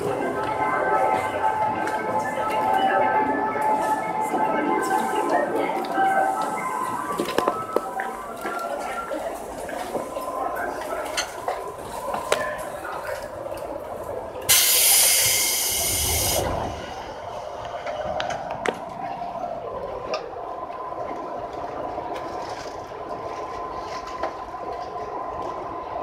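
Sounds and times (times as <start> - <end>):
train low hum: 0.0 - 26.0.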